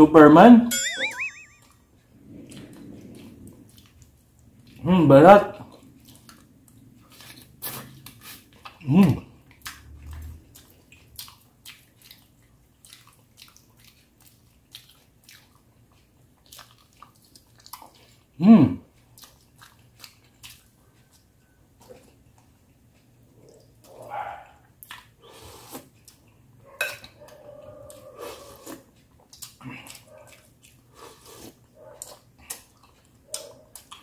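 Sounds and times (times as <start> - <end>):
chewing and crunching crispy skin: 5.5 - 26.4, 27.0 - 34.0.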